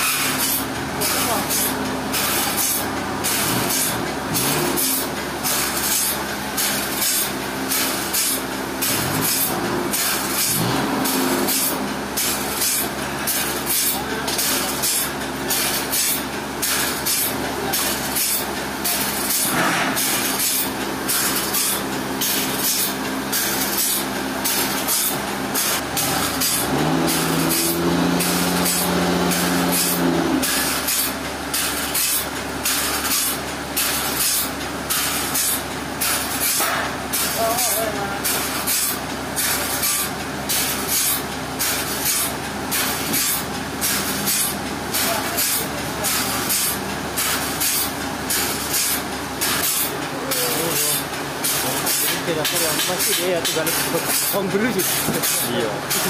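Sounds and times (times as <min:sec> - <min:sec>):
higher machine hum: 0:00.0 - 0:56.0
sawmill machinery running: 0:00.0 - 0:56.0.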